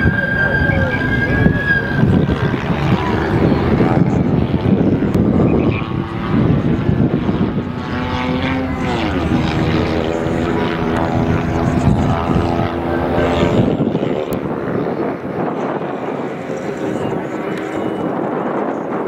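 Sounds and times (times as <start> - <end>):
rally car engine passing: 0.0 - 18.3.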